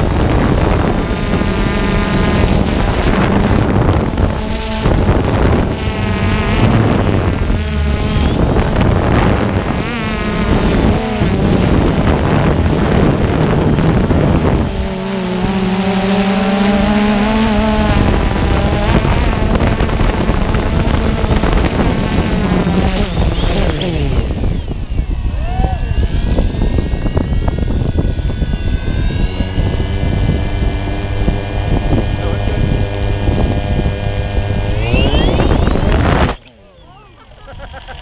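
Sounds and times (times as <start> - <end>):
wind on microphone: 0.0 - 36.6
drone propellers buzzing: 0.0 - 38.0.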